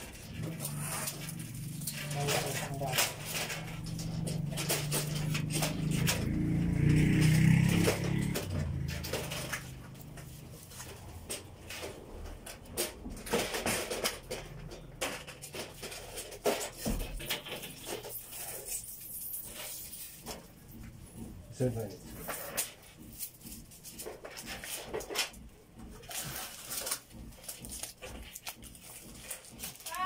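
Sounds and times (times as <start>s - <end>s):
sharp clicks and knocks: 0.0s - 30.0s.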